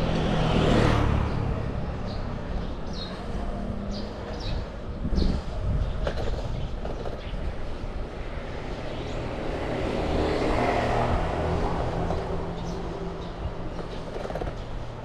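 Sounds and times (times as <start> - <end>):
motor vehicle passing: 0.0 - 15.0
traffic rushing and rumbling: 0.0 - 15.0.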